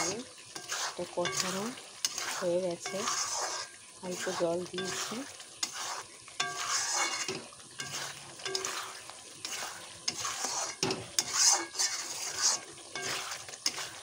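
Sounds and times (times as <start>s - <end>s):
masala sizzling: 0.0s - 14.0s
metal spatula scraping iron pan: 0.0s - 14.0s.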